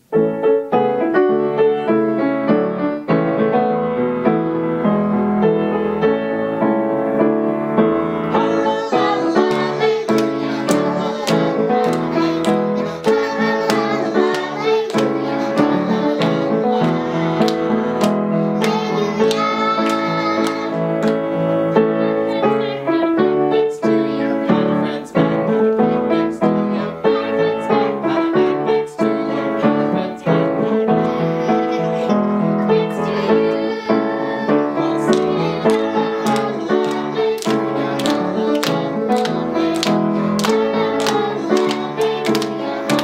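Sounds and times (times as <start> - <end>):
grand piano playing: 0.0 - 43.0
girls singing in unison: 8.3 - 43.0.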